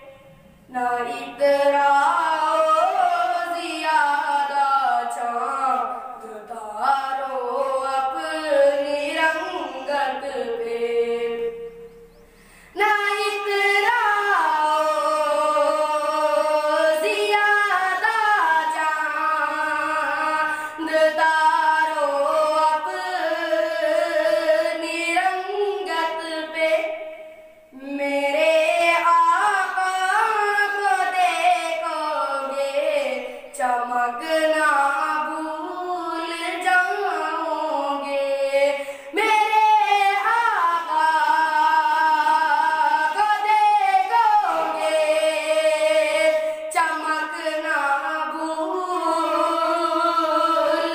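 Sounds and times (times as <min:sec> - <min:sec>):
boy singing unaccompanied: 0:00.0 - 0:50.9.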